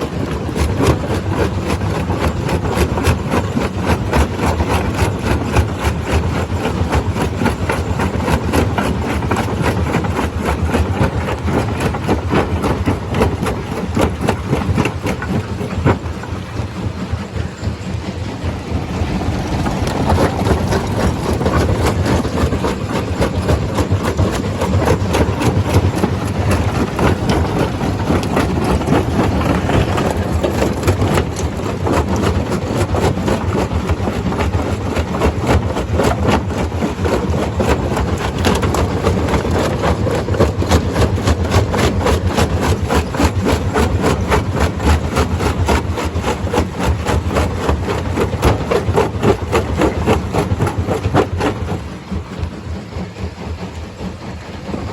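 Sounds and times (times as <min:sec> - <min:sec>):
low mechanical drone: 0:00.0 - 0:54.9.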